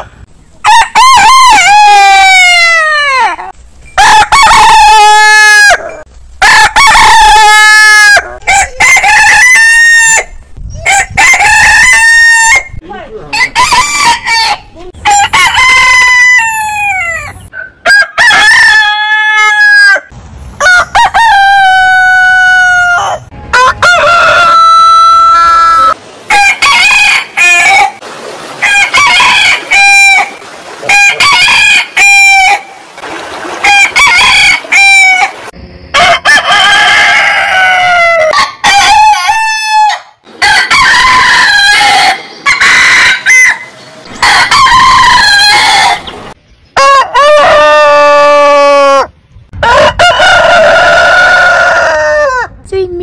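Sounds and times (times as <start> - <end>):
roosters crowing: 0.0 - 12.7, 13.3 - 28.0, 28.6 - 32.8, 33.6 - 46.2, 46.8 - 52.5.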